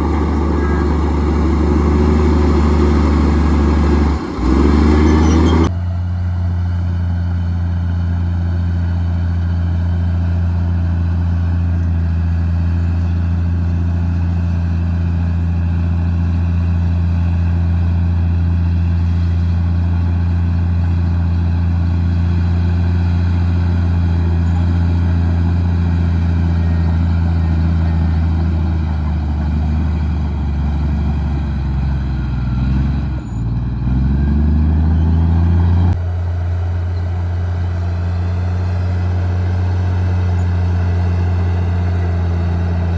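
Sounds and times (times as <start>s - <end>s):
bulldozer diesel engine running: 0.0s - 42.9s.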